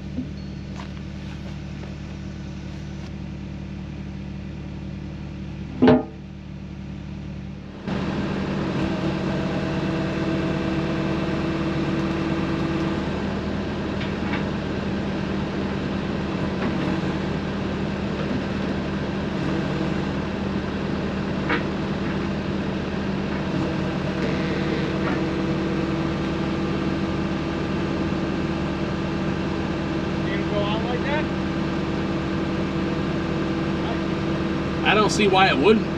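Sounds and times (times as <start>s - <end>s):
heavy equipment engine running: 0.0s - 35.9s.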